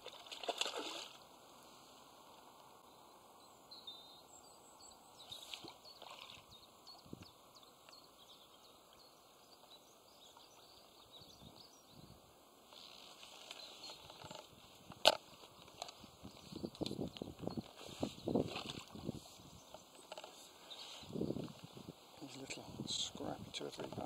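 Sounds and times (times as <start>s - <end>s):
faint bird chirps: 2.8s - 14.6s, 15.2s - 23.2s.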